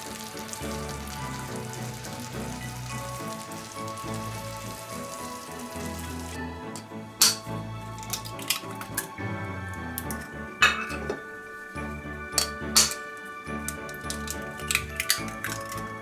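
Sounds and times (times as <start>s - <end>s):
food sizzling in frying pan: 0.0s - 9.0s, 11.0s - 16.0s
background music: 0.0s - 16.0s.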